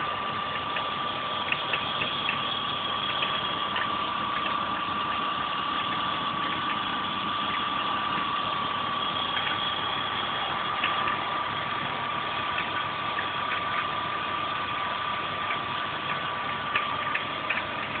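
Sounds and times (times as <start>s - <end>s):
high engine whine: 0.0s - 18.0s.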